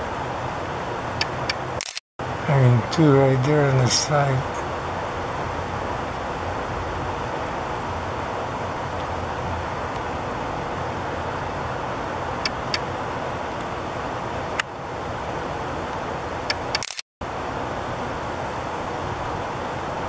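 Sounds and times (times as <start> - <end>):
rumble and hiss background noise: 0.0 - 20.0.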